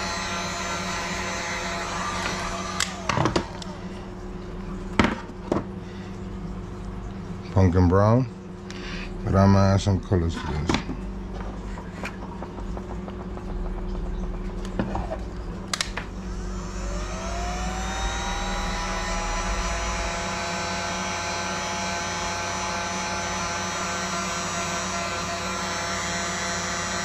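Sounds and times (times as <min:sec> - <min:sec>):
low hum: 0:00.0 - 0:25.2
heat gun fan whine: 0:00.0 - 0:27.0.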